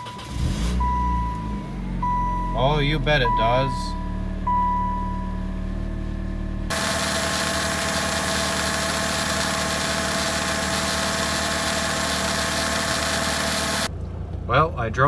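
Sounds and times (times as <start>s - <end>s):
engine grinding noise: 0.0s - 2.4s, 3.0s - 14.4s
car engine idling: 0.0s - 15.0s.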